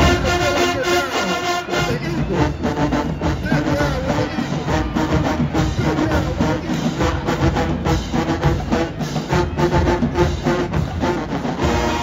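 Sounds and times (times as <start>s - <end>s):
drumline beat: 0.0s - 12.0s
marching band brass: 0.0s - 12.0s.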